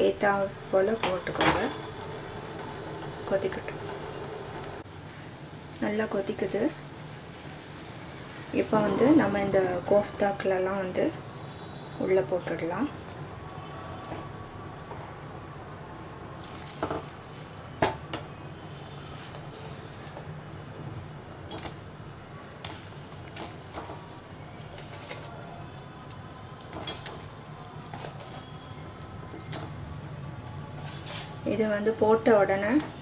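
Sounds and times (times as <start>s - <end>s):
gravy bubbling in a pot: 4.8s - 32.6s.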